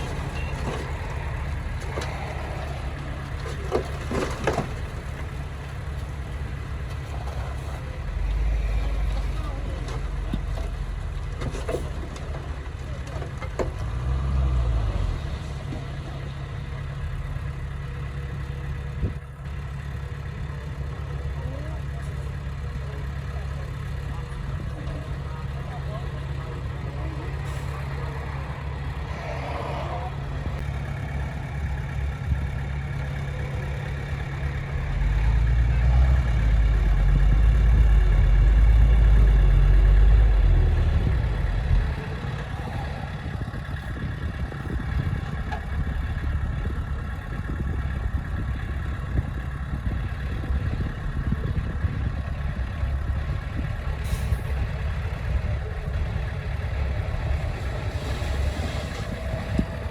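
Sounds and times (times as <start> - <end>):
heavy machine diesel engine: 0.0 - 59.9.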